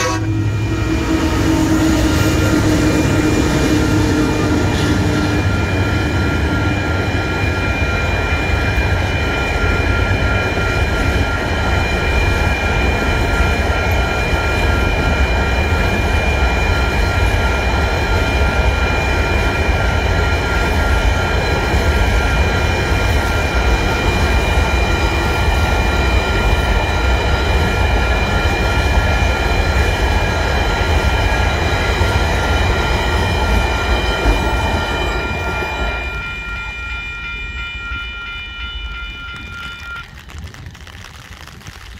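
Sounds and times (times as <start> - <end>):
high-pitched whine: 0.0 - 40.9
train wagons rumbling: 0.0 - 41.9.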